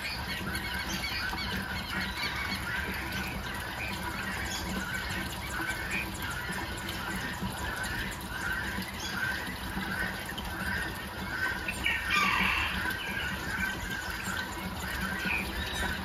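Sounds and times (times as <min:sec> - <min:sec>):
birds squawking: 0:00.0 - 0:16.0
water pouring from watering can: 0:00.0 - 0:16.0.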